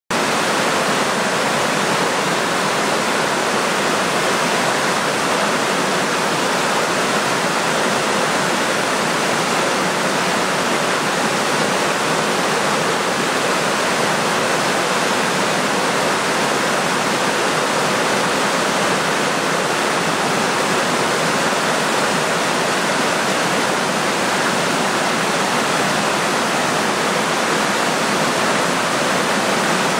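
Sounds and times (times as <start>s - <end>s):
creek water cascading over rocks: 0.1s - 29.9s.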